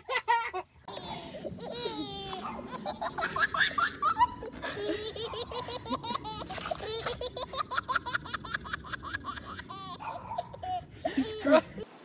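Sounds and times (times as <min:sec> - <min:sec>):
toddler giggling: 0:00.0 - 0:11.9.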